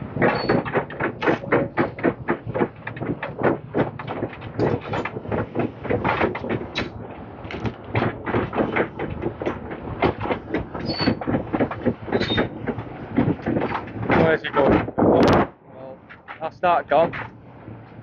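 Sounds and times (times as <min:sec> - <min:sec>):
metal and concrete clanking: 0:00.0 - 0:17.4
excavator engine: 0:00.0 - 0:18.0.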